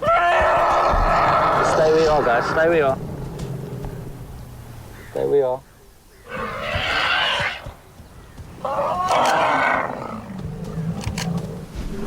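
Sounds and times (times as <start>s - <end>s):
elephant trumpeting: 0.0s - 5.2s, 6.2s - 7.8s, 8.6s - 11.7s.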